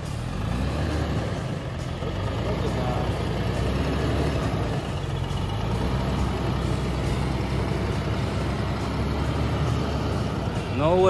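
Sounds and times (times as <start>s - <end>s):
vehicle engine low rumble: 0.0s - 11.0s.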